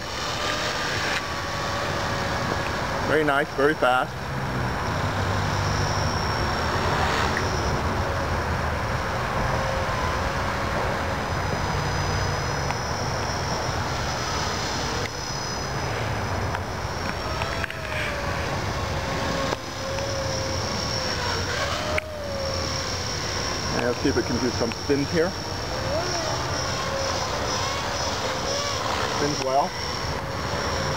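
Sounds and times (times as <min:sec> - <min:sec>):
rc helicopter motor whine: 0:00.0 - 0:30.9
rotor noise: 0:00.0 - 0:30.9.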